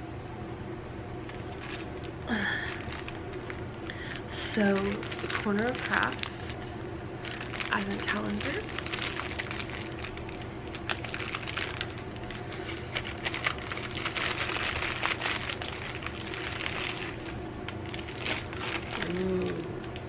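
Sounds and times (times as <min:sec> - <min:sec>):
packaging rustling and crackling: 0:01.2 - 0:20.0.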